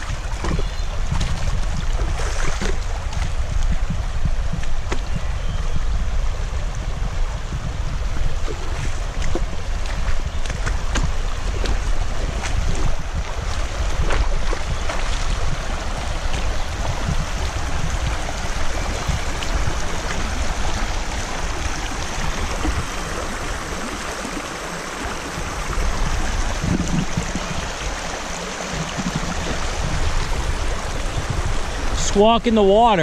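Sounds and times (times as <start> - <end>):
river water rushing: 0.0 - 5.0, 6.0 - 33.0.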